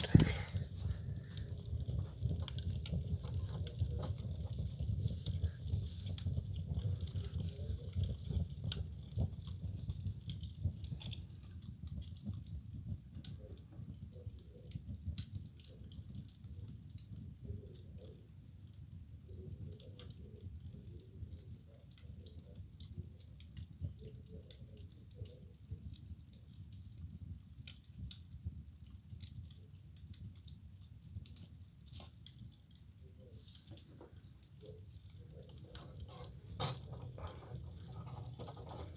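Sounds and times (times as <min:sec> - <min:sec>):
fire crackling and popping: 0:00.0 - 0:38.9
fire rumbling: 0:00.0 - 0:38.9.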